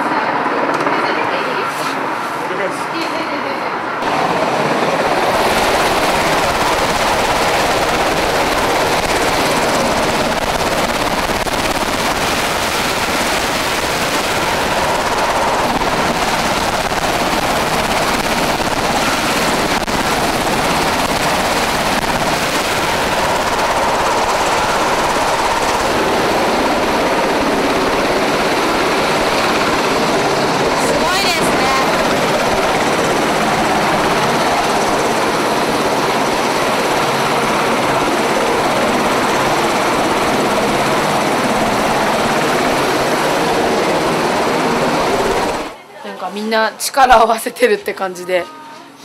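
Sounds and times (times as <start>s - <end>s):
helicopter rotor and engine: 0.0s - 45.8s.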